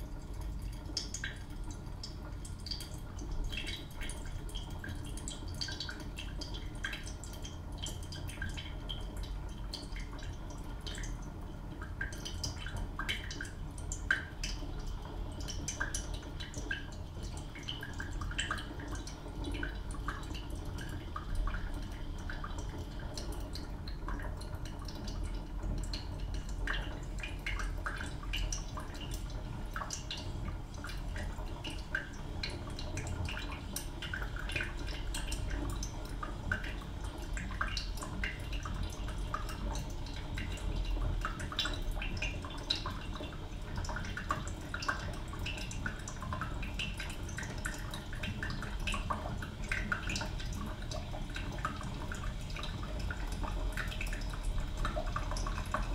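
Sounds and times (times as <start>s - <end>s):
coffee dripping into pot: 0.0s - 55.9s.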